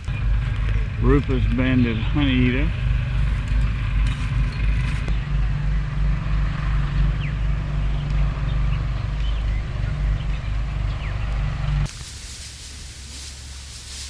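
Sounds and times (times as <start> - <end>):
engine rumble: 0.0 - 14.0.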